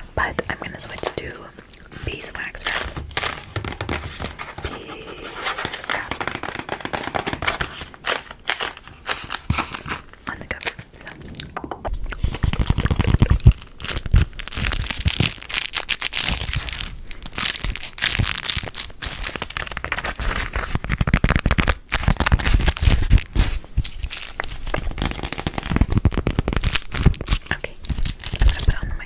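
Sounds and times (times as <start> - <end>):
hands crinkling on microphone: 0.3 - 29.0.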